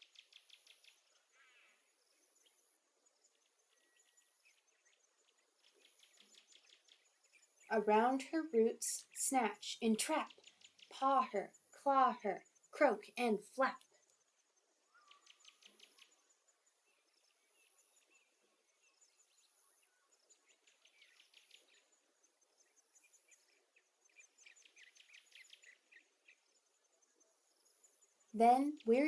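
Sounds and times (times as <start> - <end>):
faint insect chirping: 0.0 - 29.0.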